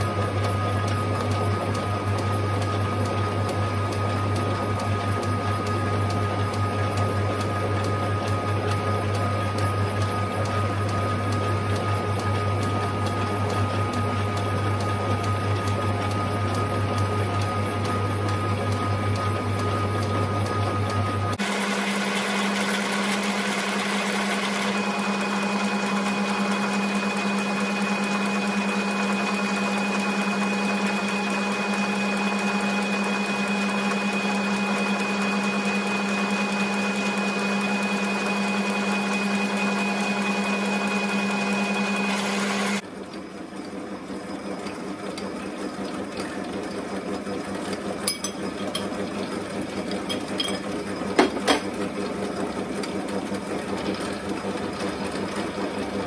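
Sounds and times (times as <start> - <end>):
lathe running with high whine: 0.0 - 56.0.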